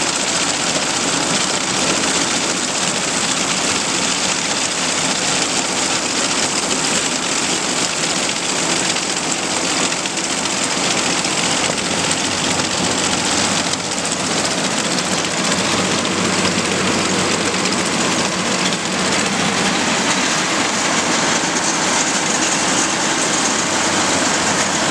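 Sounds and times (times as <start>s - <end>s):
combine engine running: 0.0s - 24.9s.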